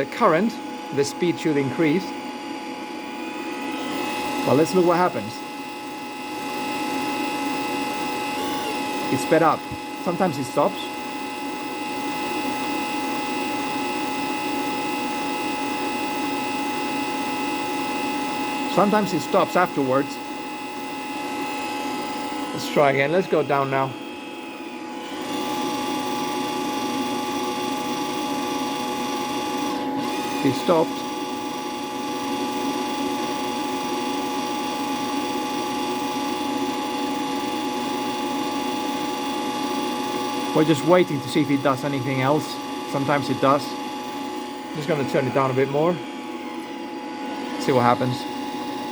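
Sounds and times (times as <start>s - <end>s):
constant motor whine: 0.0s - 48.9s
wire feed motor whirring: 0.0s - 48.9s.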